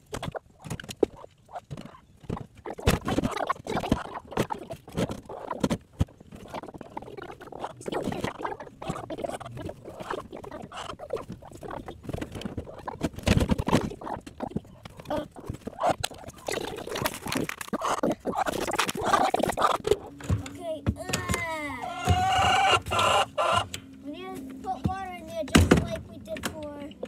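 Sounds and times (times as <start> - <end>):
hens murmuring: 0.0 - 25.6.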